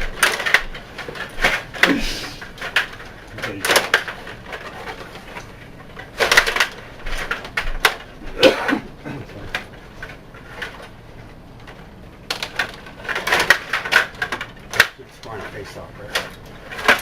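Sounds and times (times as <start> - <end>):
table hockey pieces clattering: 0.1 - 10.9, 12.3 - 17.0.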